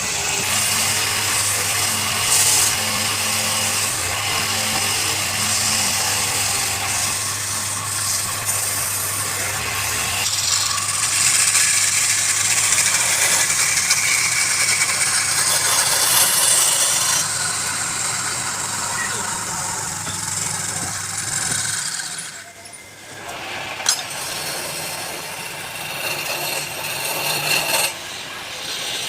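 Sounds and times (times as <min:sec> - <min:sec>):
lathe motor hum: 0:00.0 - 0:29.0
tool scraping spinning wood: 0:00.0 - 0:29.0.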